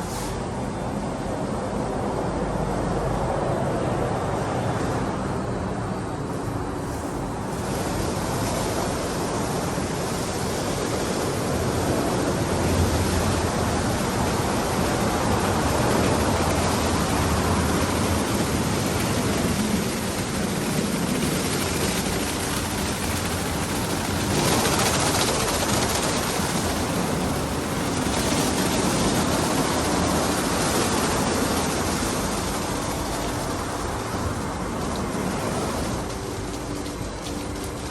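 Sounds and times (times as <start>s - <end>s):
car wash spraying water: 6.3s - 37.9s.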